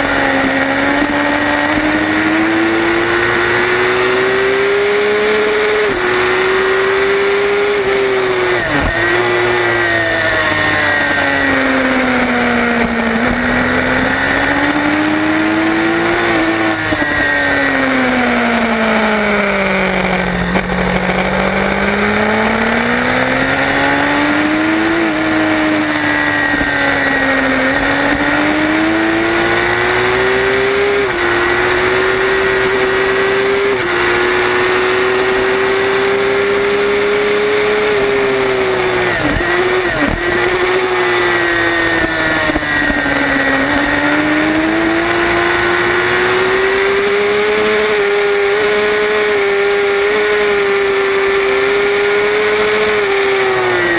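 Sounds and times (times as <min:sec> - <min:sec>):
race motorcycle engine revving: 0:00.0 - 0:53.9.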